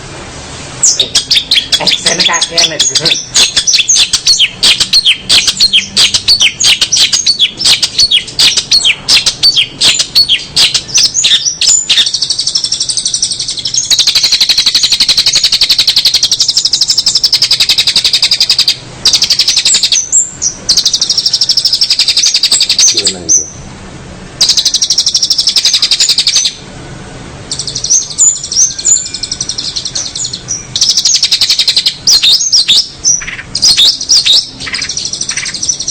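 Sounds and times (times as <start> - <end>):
songbird chirping and trilling: 0.8 - 23.7, 24.3 - 35.9.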